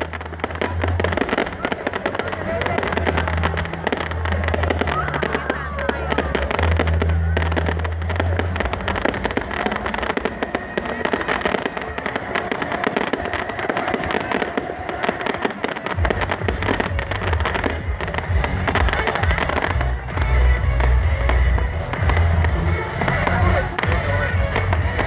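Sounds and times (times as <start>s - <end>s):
loud music with heavy bass: 0.0s - 11.8s, 12.4s - 25.0s
firecrackers crackling: 0.0s - 25.0s.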